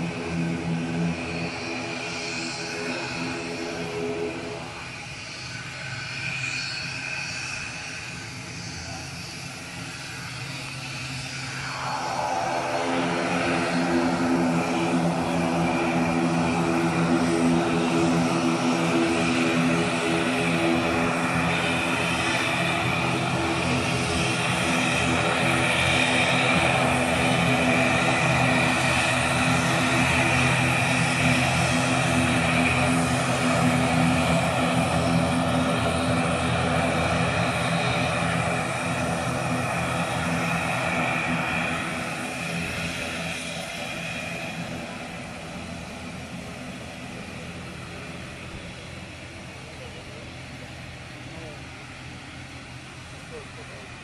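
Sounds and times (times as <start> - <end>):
turboprop engines humming: 0.0 - 54.0.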